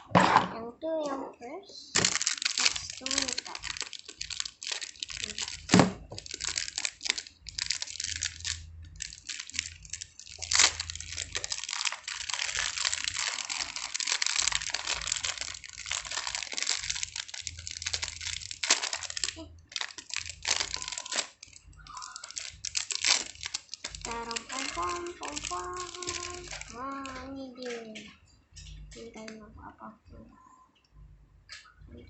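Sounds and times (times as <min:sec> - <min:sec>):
packaging crinkling and rustling: 0:02.0 - 0:28.7.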